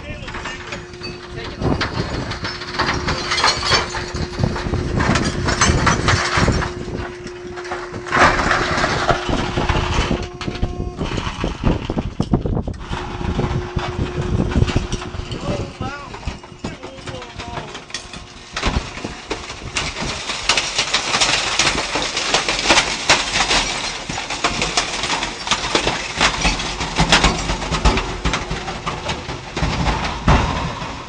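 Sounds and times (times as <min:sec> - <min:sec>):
trash compactor humming: 0:00.0 - 0:31.0.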